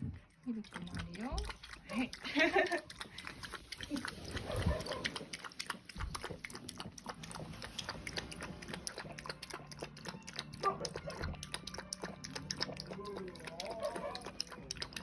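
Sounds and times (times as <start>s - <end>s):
puppy chewing and lapping food: 0.0s - 15.0s.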